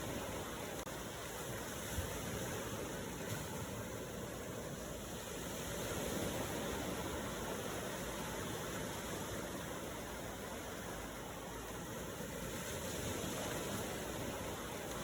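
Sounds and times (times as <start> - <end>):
ocean waves washing in: 0.0 - 15.0.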